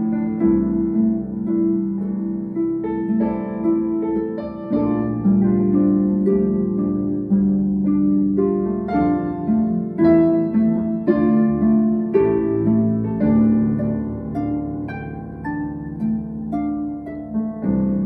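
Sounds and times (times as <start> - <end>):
harp plucked notes: 0.0 - 18.0.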